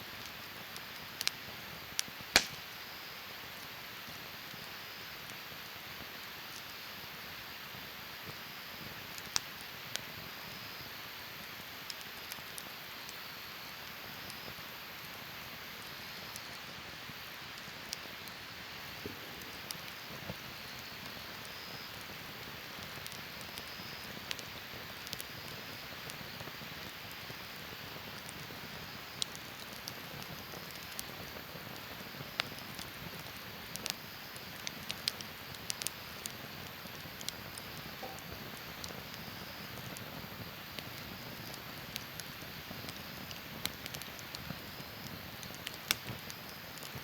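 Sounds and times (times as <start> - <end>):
campfire crackling and hissing: 0.0 - 47.0.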